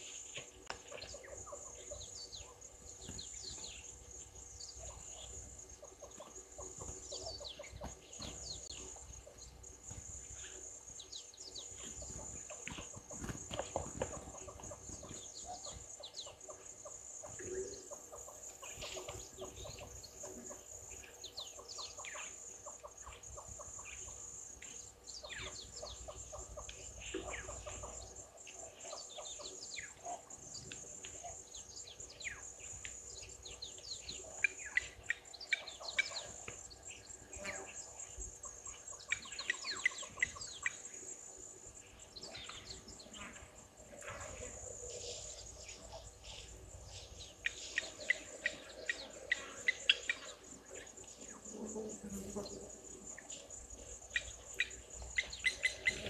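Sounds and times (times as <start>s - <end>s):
high insect drone: 0.0s - 56.0s
other birds chirping: 0.0s - 56.0s.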